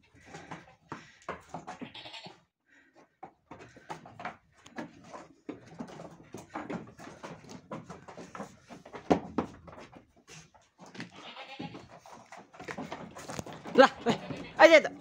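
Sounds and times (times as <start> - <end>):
goats knocking and scuffing: 0.0 - 15.0.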